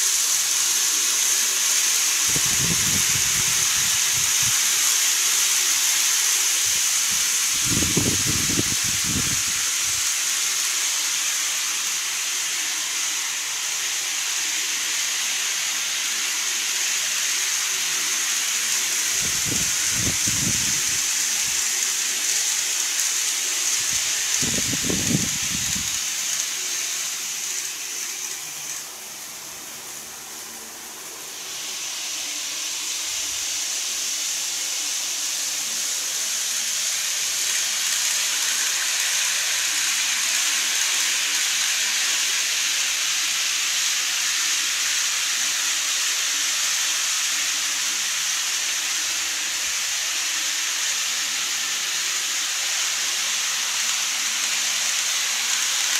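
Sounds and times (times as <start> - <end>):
model trains hissing on track: 0.0 - 55.9.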